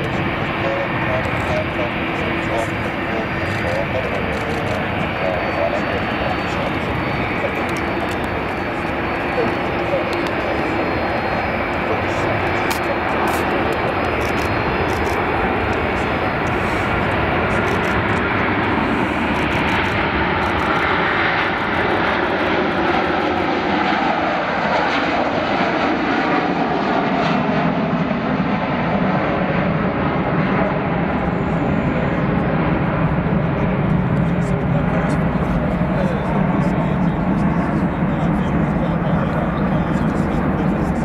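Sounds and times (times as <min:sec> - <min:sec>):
airliner passing overhead whining: 0:00.0 - 0:41.0
jet engines roaring: 0:00.0 - 0:41.0.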